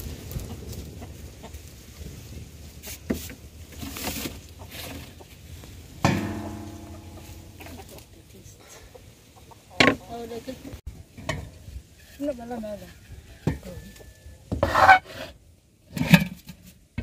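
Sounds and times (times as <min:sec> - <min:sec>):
chickens clucking: 0:00.0 - 0:02.1, 0:02.8 - 0:15.2.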